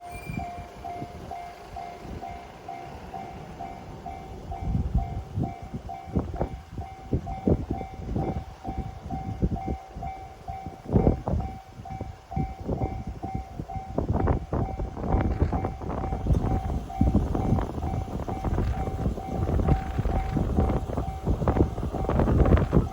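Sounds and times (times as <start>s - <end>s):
level crossing alarm ringing: 0.0s - 22.9s
train wheels rumbling and clattering: 0.0s - 22.9s.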